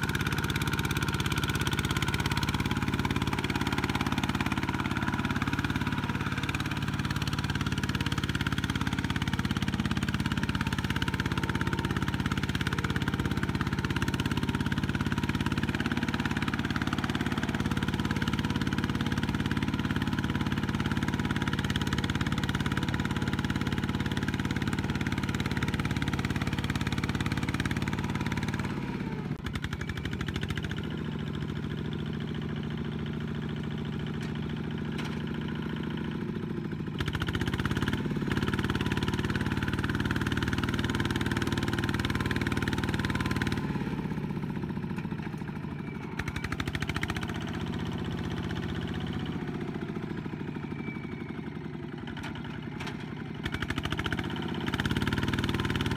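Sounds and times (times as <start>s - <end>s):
diesel walking tractor engine: 0.0s - 55.9s.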